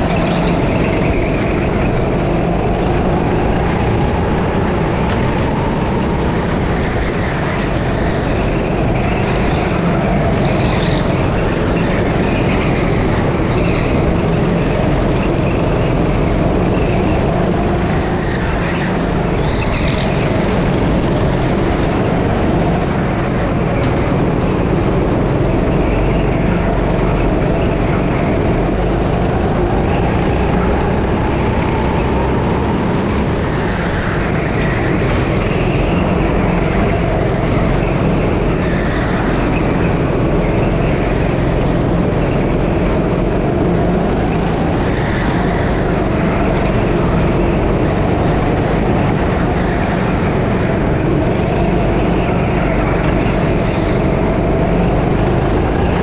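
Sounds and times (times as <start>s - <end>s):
high squeals: 0.0s - 56.0s
kart engine running: 0.0s - 56.0s.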